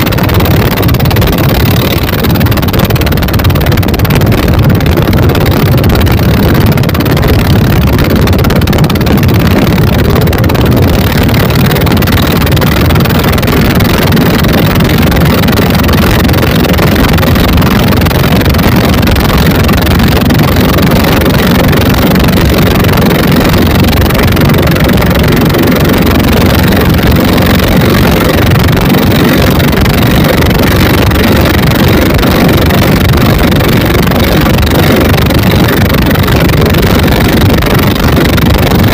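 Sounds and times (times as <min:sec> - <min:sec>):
diesel boat engines running: 0:00.0 - 0:38.9
wind buffeting microphone: 0:00.0 - 0:38.9.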